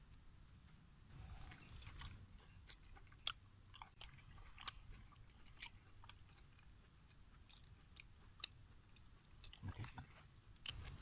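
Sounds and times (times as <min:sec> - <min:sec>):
wet chewing and lip smacks: 0:01.1 - 0:11.0.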